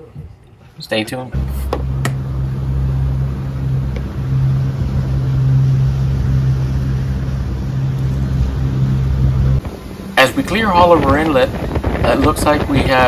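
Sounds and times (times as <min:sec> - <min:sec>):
outboard engines droning: 0:00.0 - 0:13.0
water rushing along hull: 0:01.4 - 0:13.0.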